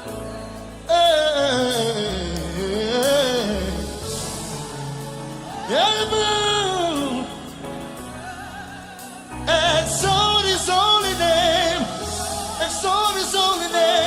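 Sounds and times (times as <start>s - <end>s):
gospel band with keyboard and bass: 0.0s - 14.0s
person singing with vibrato: 0.0s - 14.0s.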